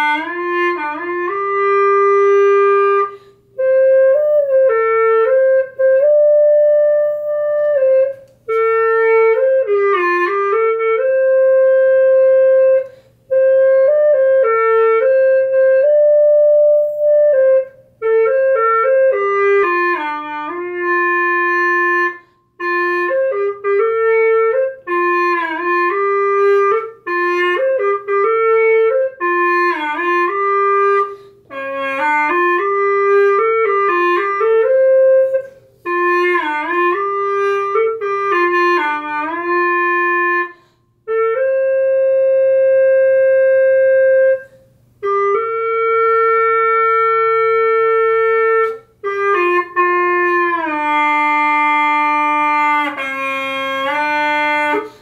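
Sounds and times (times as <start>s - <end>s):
free-reed pipe melody: 0.0s - 55.0s.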